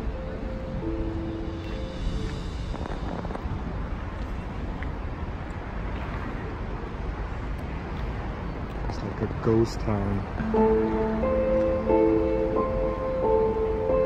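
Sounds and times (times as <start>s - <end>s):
urban background noise: 0.0s - 14.0s
wind rumbling on microphone: 0.0s - 14.0s.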